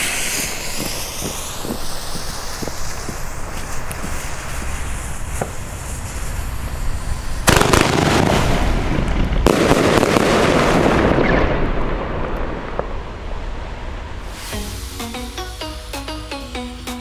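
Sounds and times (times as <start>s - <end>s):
firework bangs: 0.0s - 15.2s
firework crackling: 0.0s - 17.0s.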